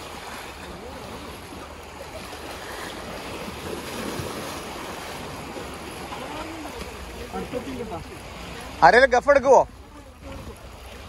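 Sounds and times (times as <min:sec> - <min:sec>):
waves washing against rocks: 0:00.0 - 0:11.0.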